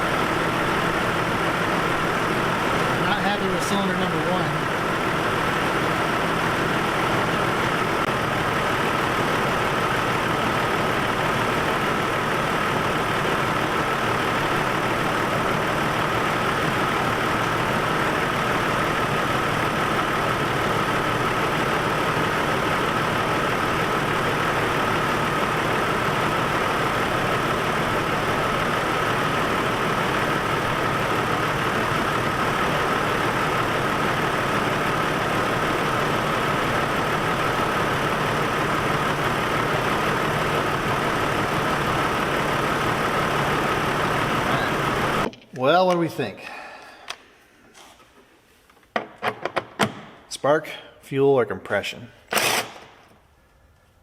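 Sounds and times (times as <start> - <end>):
engine idling with misfire: 0.0 - 45.3.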